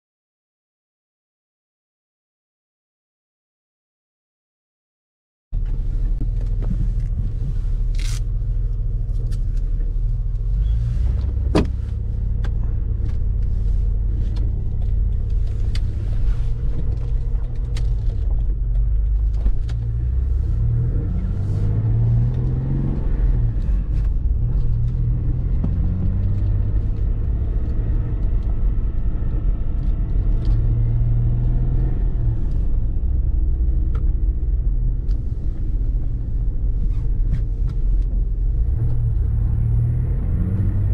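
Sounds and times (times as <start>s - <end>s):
car engine and road rumble: 5.5s - 40.9s.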